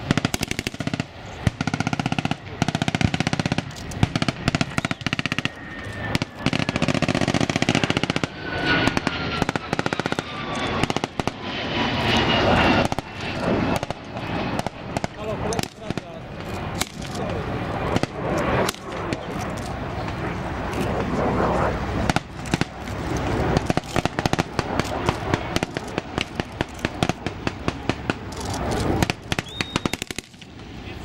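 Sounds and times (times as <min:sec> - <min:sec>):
rushing noise with falling whine: 0:02.4 - 0:31.0.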